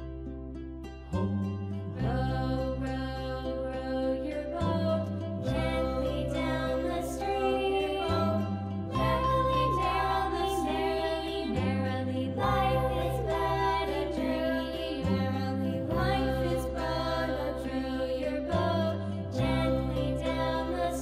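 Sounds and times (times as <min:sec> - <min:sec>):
slow held bass notes: 0:00.0 - 0:21.0
person singing: 0:02.0 - 0:21.0.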